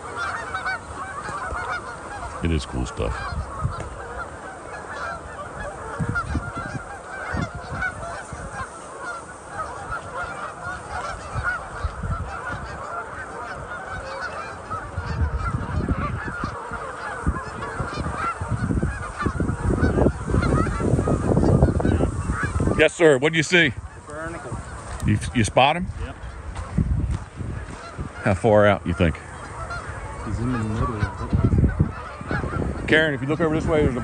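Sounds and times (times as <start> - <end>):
flock of geese honking: 0.0 - 34.0.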